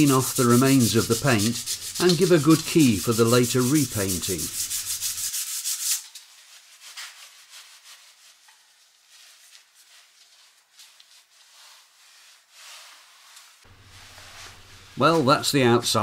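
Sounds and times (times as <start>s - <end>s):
sandpaper rubbing on metal: 0.0s - 15.4s
cloth wiping metal: 0.0s - 16.0s.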